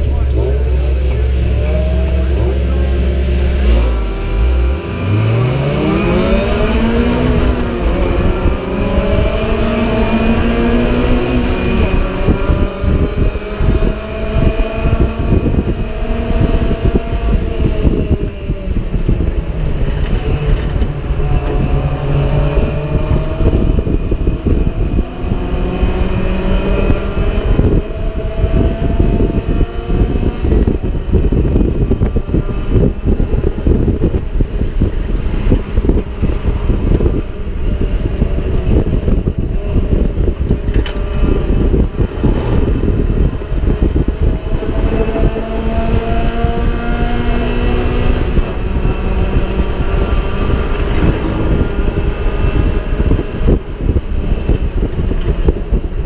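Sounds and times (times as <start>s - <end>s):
race car engine accelerating: 0.0s - 56.0s
wind and road noise: 0.0s - 56.0s.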